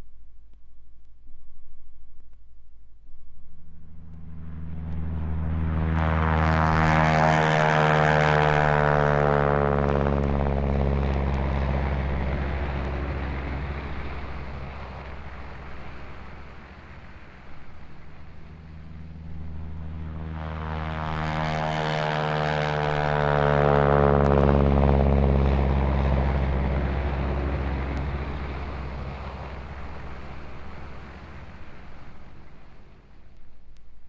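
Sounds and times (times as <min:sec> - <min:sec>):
propeller plane engine passing: 0:03.2 - 0:33.8.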